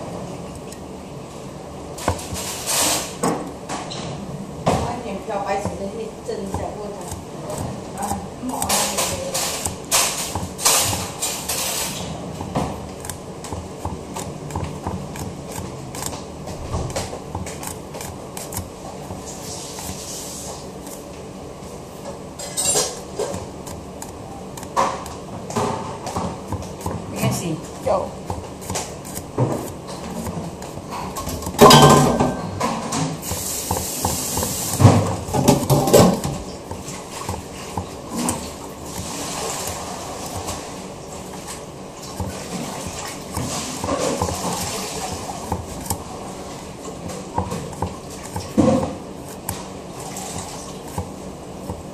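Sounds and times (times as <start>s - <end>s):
fingernails rustling and crackling: 4.8s - 21.3s, 22.0s - 32.0s, 33.2s - 51.9s.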